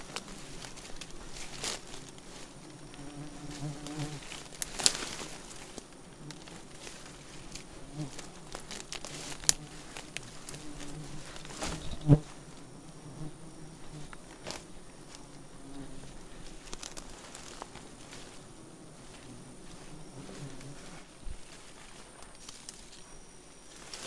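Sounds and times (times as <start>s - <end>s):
honey bees buzzing: 0.0s - 24.0s.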